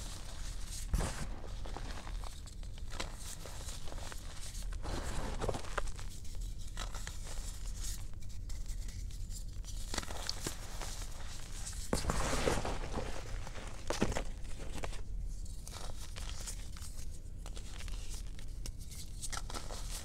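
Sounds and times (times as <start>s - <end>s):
chalk crunching and crackling: 0.0s - 20.0s.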